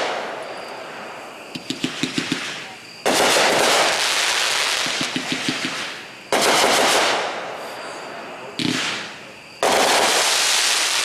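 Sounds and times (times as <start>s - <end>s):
fireworks crackling pops: 0.0s - 7.8s, 8.5s - 11.0s.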